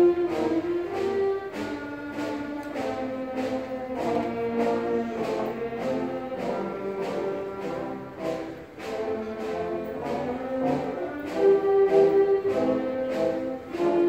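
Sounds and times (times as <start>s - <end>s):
orchestral brass processional music: 0.0s - 14.0s.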